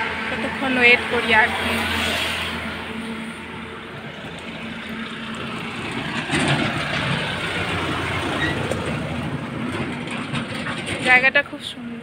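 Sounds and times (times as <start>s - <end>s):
vehicle passing on highway: 0.0s - 11.7s.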